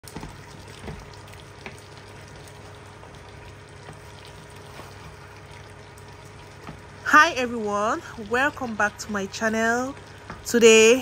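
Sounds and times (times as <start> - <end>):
food simmering with sizzling crackle: 0.0 - 11.0.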